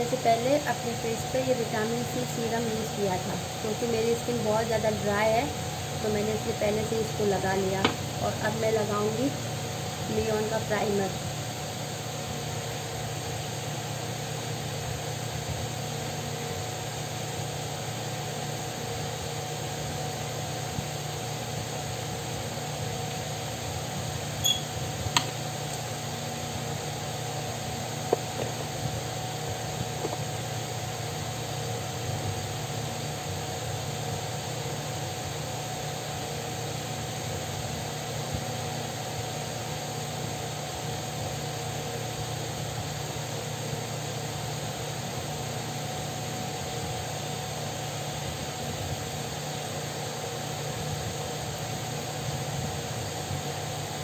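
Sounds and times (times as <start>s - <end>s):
electric fan motor hum: 0.0s - 54.0s.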